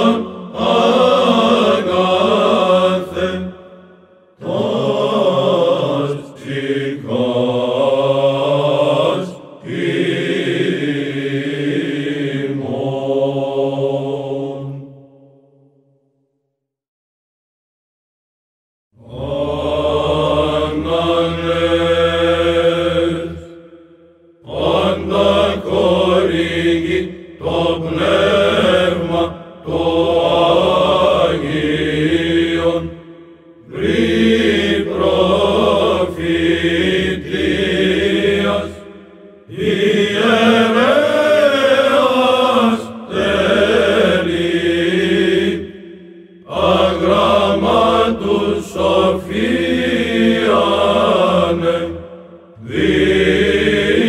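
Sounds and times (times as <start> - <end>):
men's choir chanting: 0.0 - 3.7, 4.4 - 15.0, 19.0 - 23.7, 24.5 - 54.0
low held vocal drone: 0.0 - 15.4, 19.0 - 54.0.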